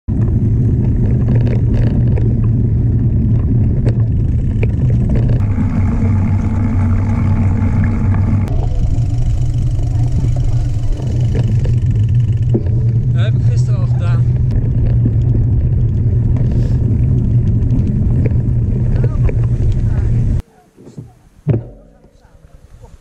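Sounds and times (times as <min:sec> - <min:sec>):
bike clicks and rattles: 0:00.1 - 0:07.1, 0:08.0 - 0:20.4
wind buffeting microphone: 0:00.1 - 0:20.4
tyres rolling over dirt: 0:00.1 - 0:23.0.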